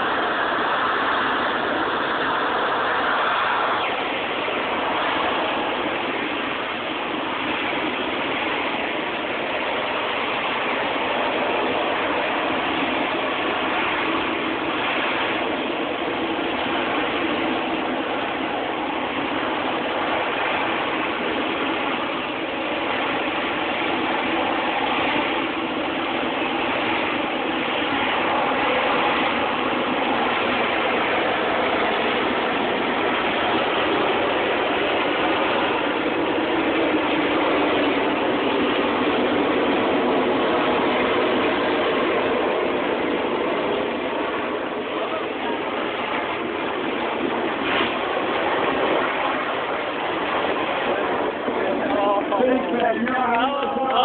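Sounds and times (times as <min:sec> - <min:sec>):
jet engine roaring: 0:00.0 - 0:54.0.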